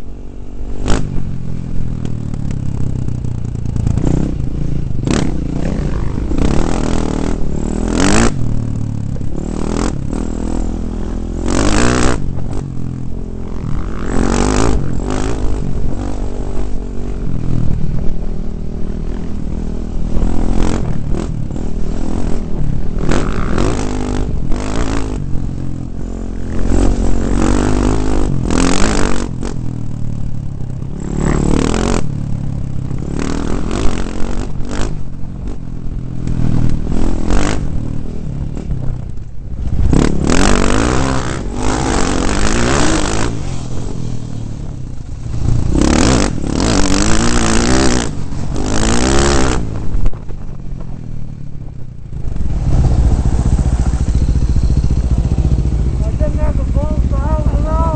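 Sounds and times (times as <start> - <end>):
dirt bike engine revving: 0.0 - 51.0, 52.1 - 57.9.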